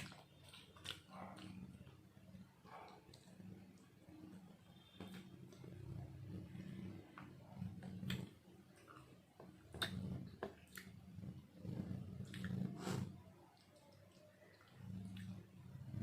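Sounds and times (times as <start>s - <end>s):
chewing and wet mouth noises: 0.0s - 16.0s.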